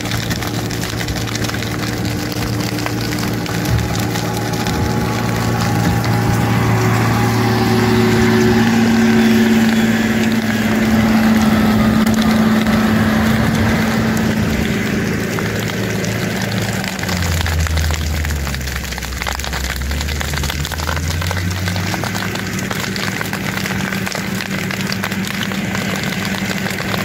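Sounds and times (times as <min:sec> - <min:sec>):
diesel engine running: 0:00.0 - 0:27.0
soil and debris crunching: 0:00.0 - 0:27.0.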